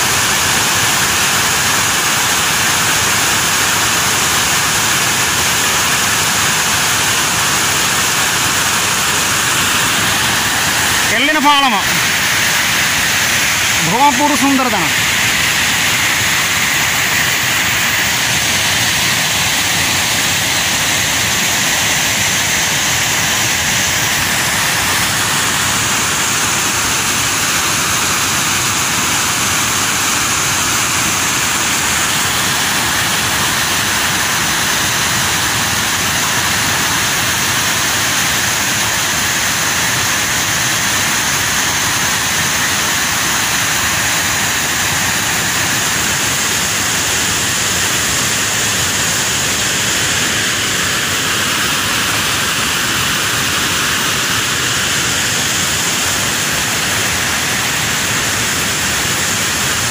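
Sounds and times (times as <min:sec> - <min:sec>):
river water rushing over weir: 0:00.0 - 0:59.9.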